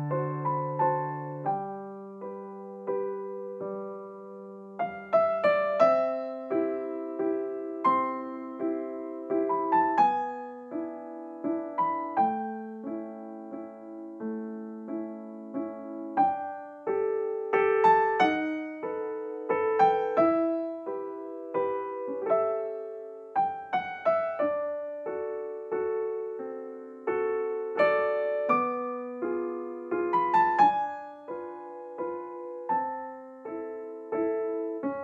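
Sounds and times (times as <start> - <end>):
gentle solo piano melody: 0.0 - 35.0.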